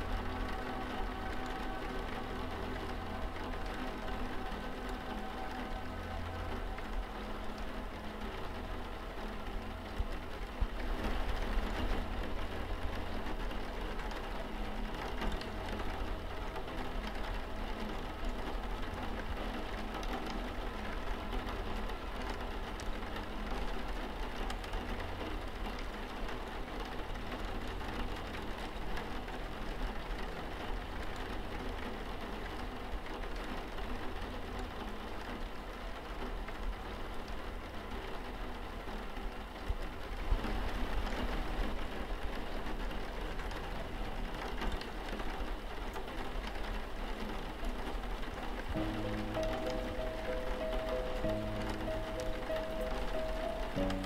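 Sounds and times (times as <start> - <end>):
constant low rumble: 0.0 - 54.0
rain pattering on a window: 0.0 - 54.0.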